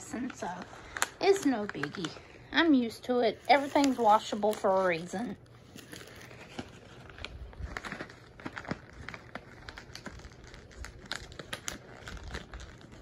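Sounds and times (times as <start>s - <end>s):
cat crunching dry treats: 0.0s - 13.0s.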